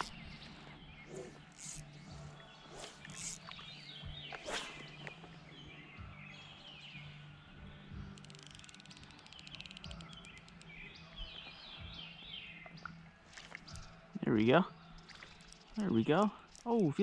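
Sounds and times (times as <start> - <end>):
birds singing whistled phrases: 0.0 - 17.0.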